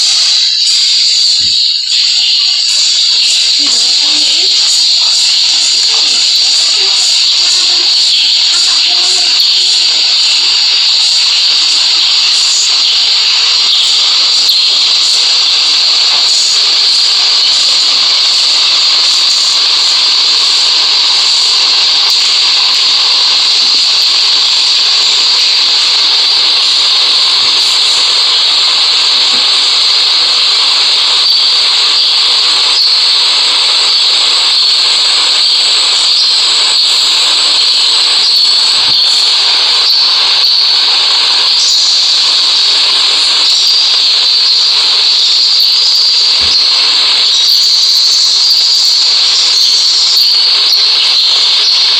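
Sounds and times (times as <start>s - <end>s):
ceiling fan hissing: 0.0s - 51.9s.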